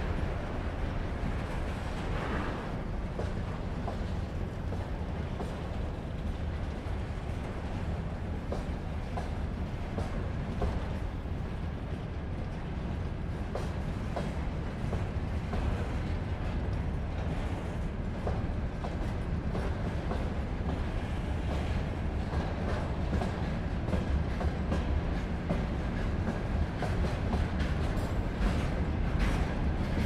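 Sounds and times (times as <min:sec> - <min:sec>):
freight train wagons rumbling: 0:00.0 - 0:30.0.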